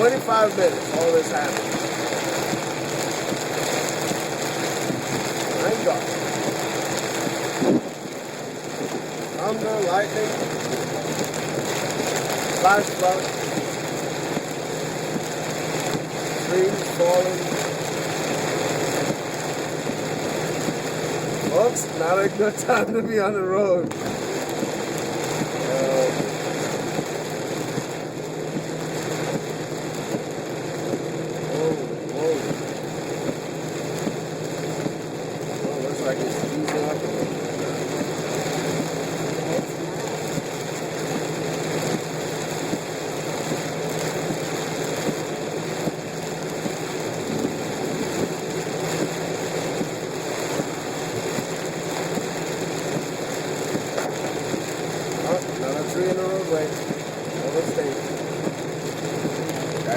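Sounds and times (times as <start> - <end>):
low engine and road hum: 0.0 - 59.9
rain and tyre spray hiss: 0.0 - 59.9.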